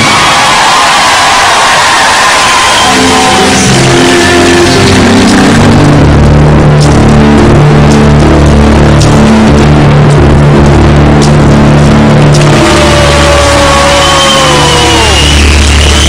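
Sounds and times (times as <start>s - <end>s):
sustained low bass notes: 2.5s - 16.0s.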